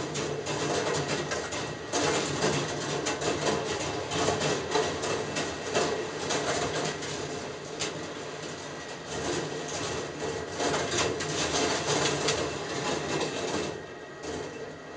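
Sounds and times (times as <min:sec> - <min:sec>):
balls rolling on metal tracks: 0:00.0 - 0:14.8.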